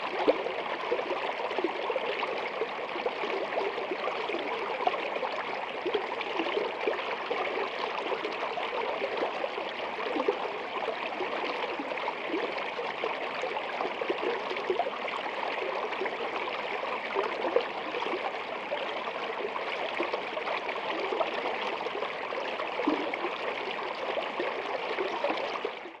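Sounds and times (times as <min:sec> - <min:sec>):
stream trickling under ice: 0:00.0 - 0:26.0.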